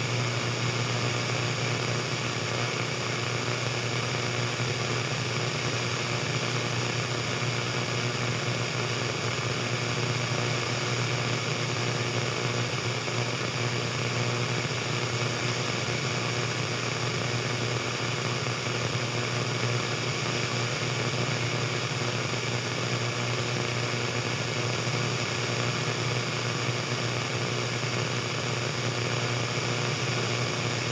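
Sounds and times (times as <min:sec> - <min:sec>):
radio static hiss: 0:00.0 - 0:30.9.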